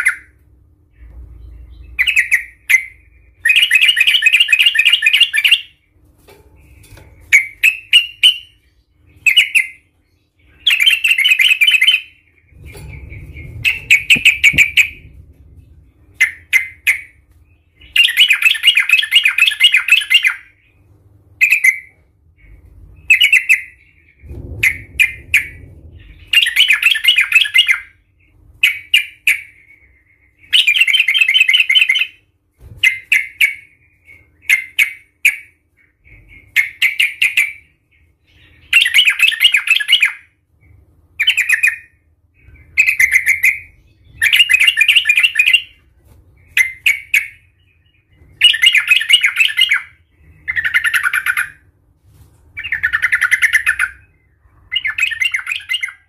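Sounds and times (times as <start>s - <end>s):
bulbul singing: 0.0s - 5.9s, 6.6s - 45.8s, 46.4s - 51.7s.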